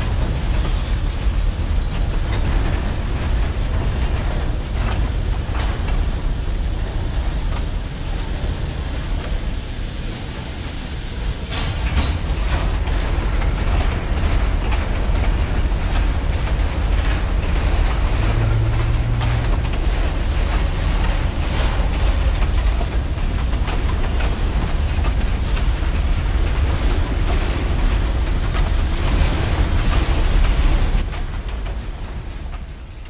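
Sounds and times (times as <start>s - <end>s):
railway cars rumbling past: 0.0s - 33.0s
wheels clattering over rails: 0.0s - 33.0s.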